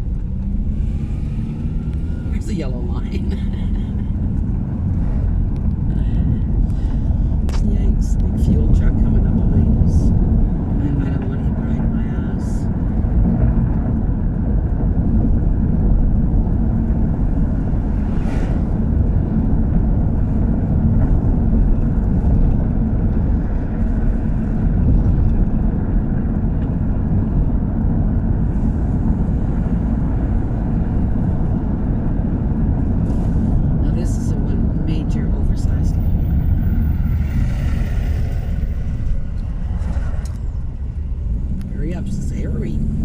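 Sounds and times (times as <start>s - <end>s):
car engine and road rumble: 0.0s - 43.0s
low hum: 0.0s - 43.0s.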